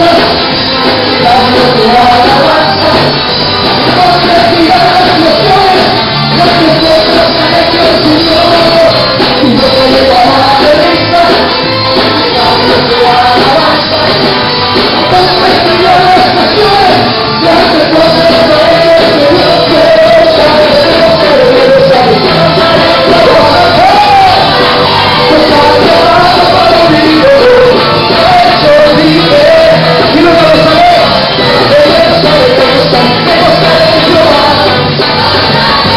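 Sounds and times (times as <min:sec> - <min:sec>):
person singing over a band: 0:00.0 - 0:35.9.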